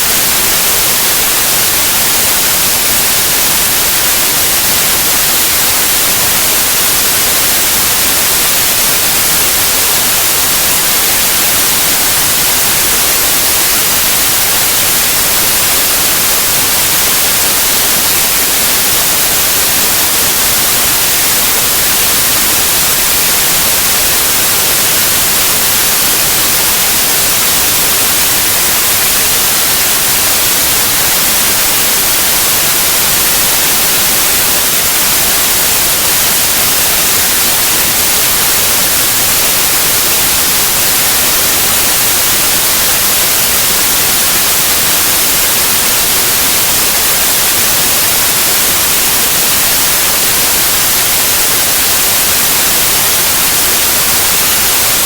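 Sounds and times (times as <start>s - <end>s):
loud white noise hiss: 0.0s - 55.0s.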